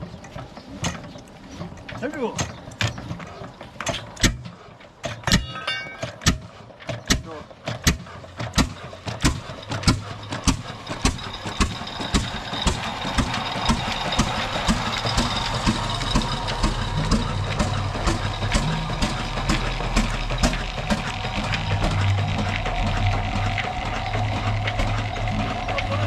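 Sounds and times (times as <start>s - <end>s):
diesel engine knocking: 0.0s - 26.0s.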